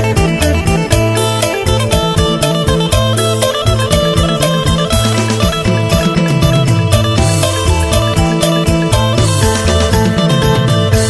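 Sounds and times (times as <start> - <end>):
plucked lute tune: 0.0 - 11.0
sliding bass line: 0.0 - 11.0
steady beat: 0.0 - 11.0.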